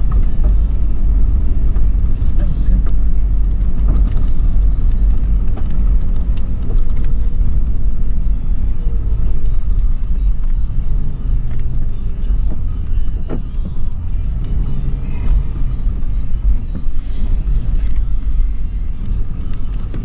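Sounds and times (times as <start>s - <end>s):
car engine rumble while driving: 0.0s - 20.0s.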